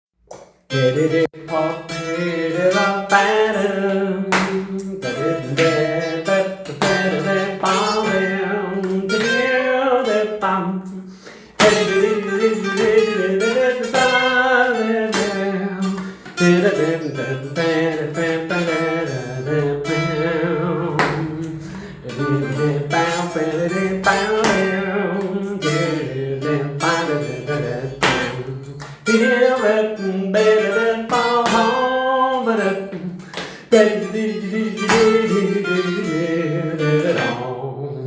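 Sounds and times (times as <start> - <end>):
guitar melody with sliding notes: 0.7 - 38.0.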